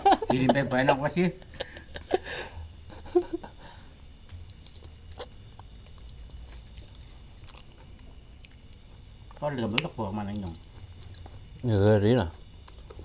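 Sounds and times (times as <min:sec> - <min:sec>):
faint low rumble: 0:01.8 - 0:12.8.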